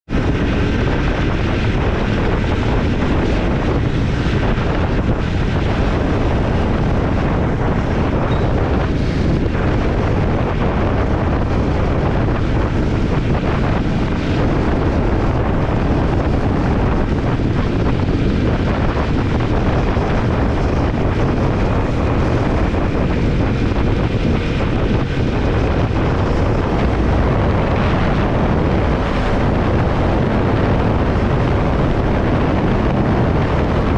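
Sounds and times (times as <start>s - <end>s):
heavy wind noise on microphone: 0.0s - 33.9s
motorcycle engine running: 0.1s - 33.9s.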